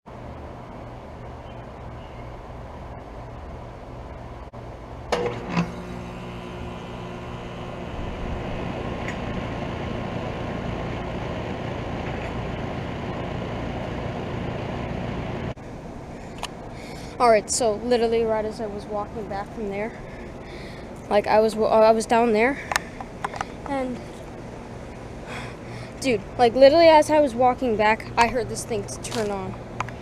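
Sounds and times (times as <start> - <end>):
compressor and fan whirring: 0.1 - 30.0
low hum: 0.1 - 30.0.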